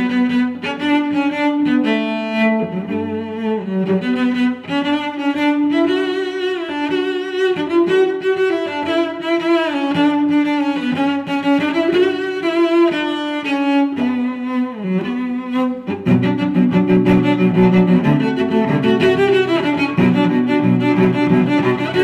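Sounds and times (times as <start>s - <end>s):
bowed strings melody: 0.0s - 22.0s.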